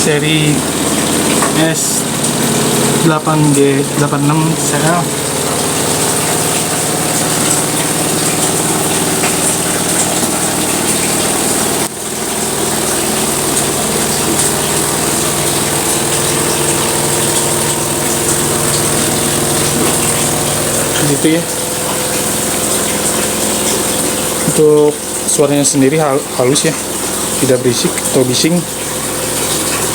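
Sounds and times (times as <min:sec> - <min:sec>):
washing machine motor hum: 0:00.0 - 0:29.9
water churning in tub: 0:00.0 - 0:29.9.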